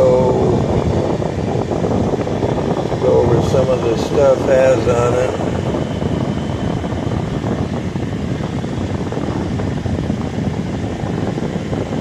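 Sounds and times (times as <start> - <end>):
air conditioning blower rushing: 0.0 - 12.0.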